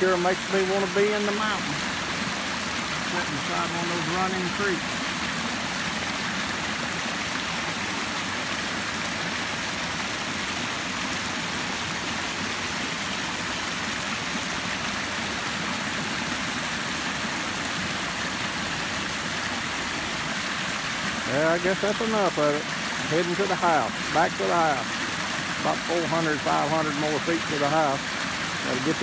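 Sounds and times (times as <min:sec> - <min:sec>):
creek rushing and splashing: 0:00.0 - 0:29.0.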